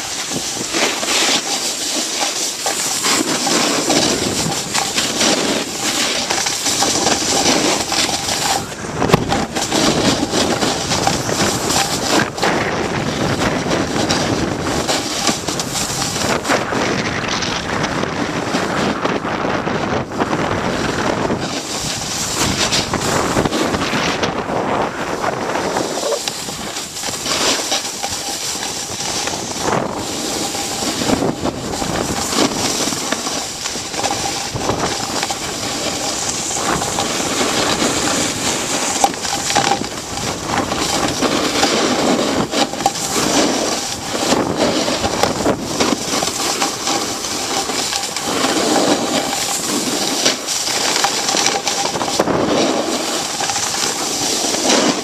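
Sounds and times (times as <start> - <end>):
skis scraping over snow: 0.0 - 55.0
wind buffeting microphone: 2.6 - 55.0.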